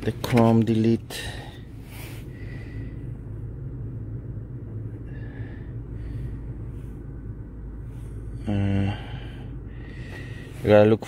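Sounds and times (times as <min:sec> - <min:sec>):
vehicle cabin hum: 0:00.0 - 0:11.0.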